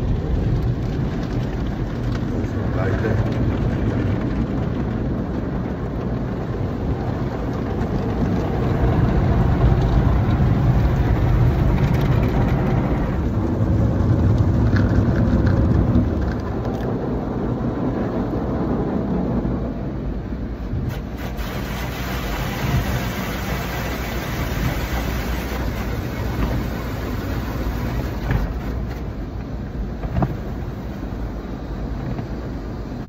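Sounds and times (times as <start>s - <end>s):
car wash water drumming on roof: 0.0s - 33.0s.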